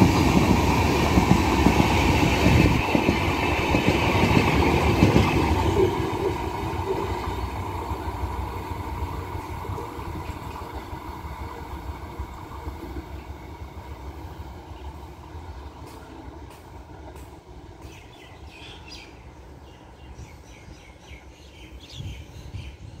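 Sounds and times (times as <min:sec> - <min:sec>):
train coaches rumbling past: 0:00.0 - 0:23.0.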